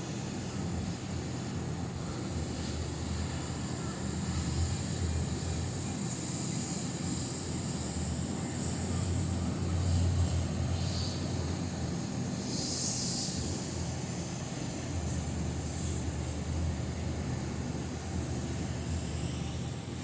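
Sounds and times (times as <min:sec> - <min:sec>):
car wash machinery humming: 0:00.0 - 0:20.0
high hissing water spray: 0:00.0 - 0:20.0.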